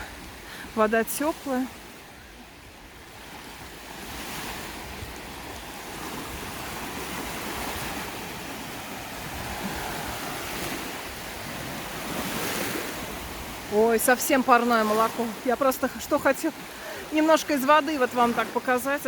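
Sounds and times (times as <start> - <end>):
wind on microphone: 0.0 - 17.2
small waves washing on shore: 0.0 - 19.0.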